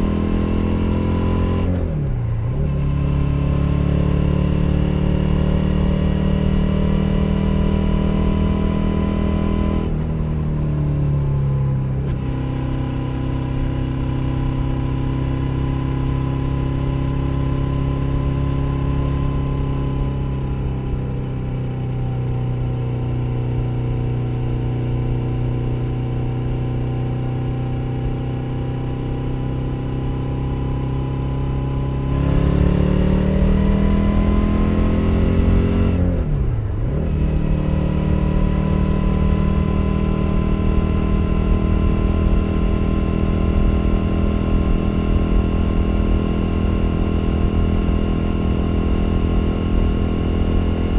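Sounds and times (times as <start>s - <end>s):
motorcycle engine: 0.0s - 50.9s.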